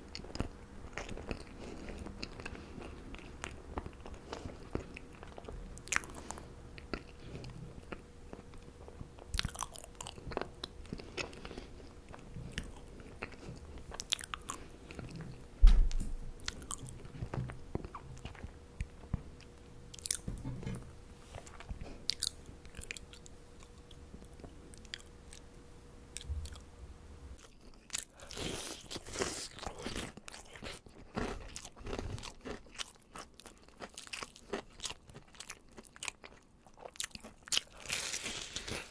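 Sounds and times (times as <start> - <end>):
faint steady hum: 0.0 - 38.9
chewing marshmallows: 0.1 - 15.5, 16.4 - 20.3, 21.3 - 25.5, 27.4 - 38.9.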